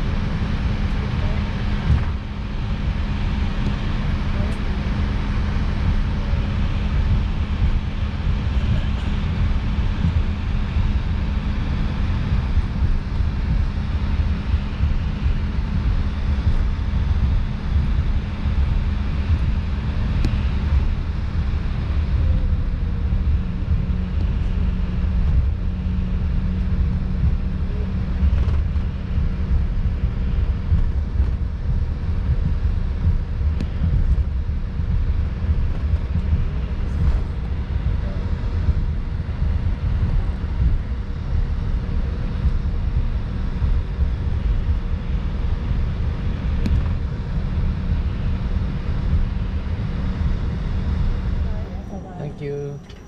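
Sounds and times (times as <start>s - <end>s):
faint steady hum: 0.0s - 53.0s
jet engines idling: 0.0s - 53.0s.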